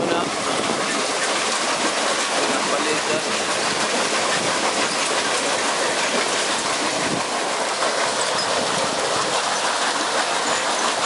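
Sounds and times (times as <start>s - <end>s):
water rushing through paddle wheel: 0.0s - 11.0s.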